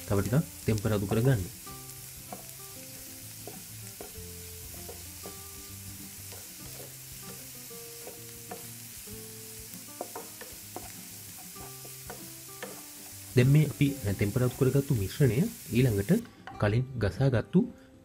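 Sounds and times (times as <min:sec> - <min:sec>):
vegetables sizzling in hot oil: 0:00.0 - 0:16.2.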